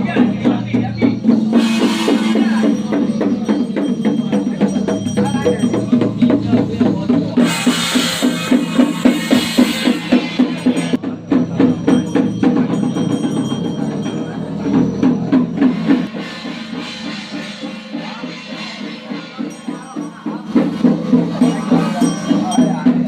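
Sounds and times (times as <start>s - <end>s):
crashing cymbals: 0.0s - 23.0s
drum beaten in fast rhythm: 0.0s - 23.0s.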